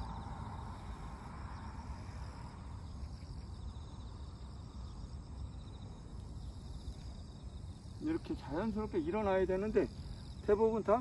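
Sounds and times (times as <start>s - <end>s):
insects trilling: 0.0s - 11.0s
low outdoor rumble: 0.0s - 11.0s.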